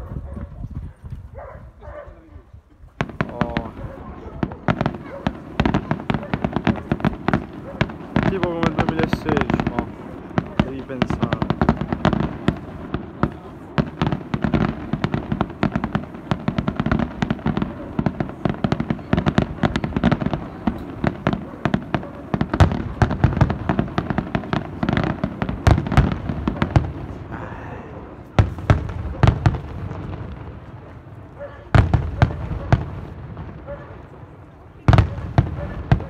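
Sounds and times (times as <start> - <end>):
fireworks bursts and crackling: 2.8 - 36.0
loud firework bangs: 3.0 - 36.0.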